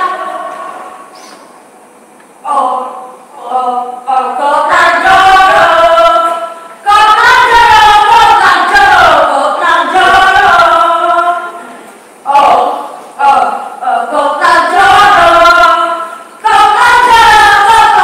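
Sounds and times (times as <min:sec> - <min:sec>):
voices singing without instruments: 0:00.0 - 0:01.4, 0:02.4 - 0:18.0.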